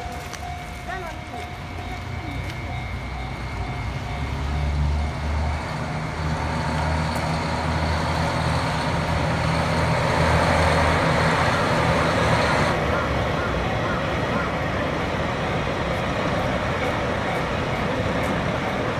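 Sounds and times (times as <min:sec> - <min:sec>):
heavy diesel engine rumbling: 0:00.0 - 0:18.9
traffic noise: 0:00.0 - 0:18.9.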